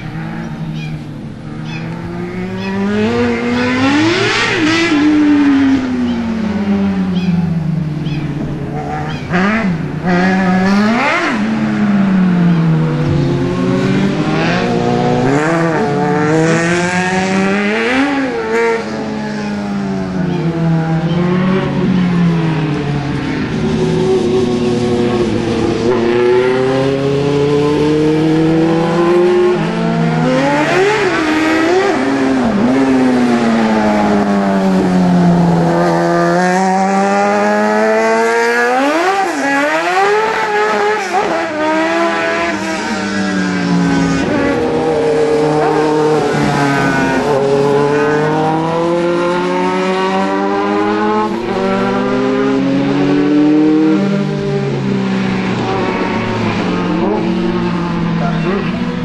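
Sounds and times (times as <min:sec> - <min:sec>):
race car engines revving: 0:00.0 - 0:59.0.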